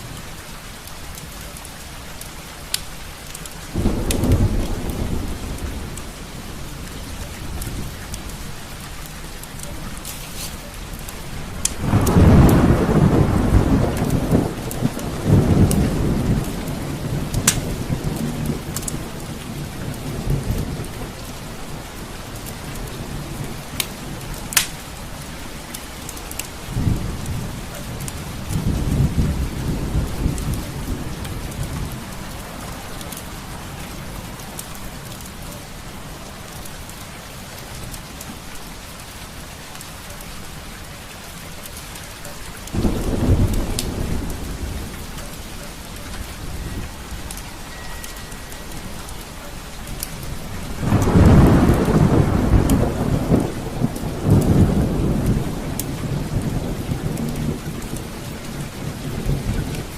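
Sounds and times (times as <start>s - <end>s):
steady rain: 0.0s - 59.9s
thunder rumbling: 3.6s - 35.1s, 42.7s - 48.0s, 48.7s - 59.9s.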